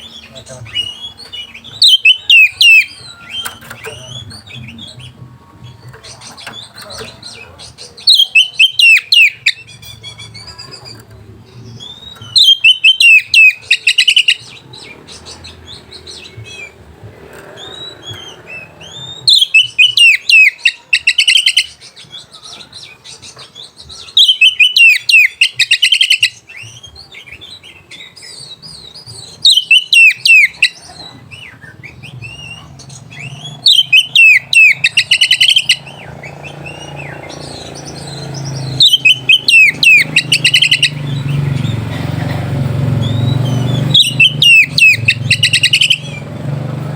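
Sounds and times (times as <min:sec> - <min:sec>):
soft bird calls: 0:00.0 - 0:46.8
bird singing sweeping notes: 0:00.0 - 0:46.9.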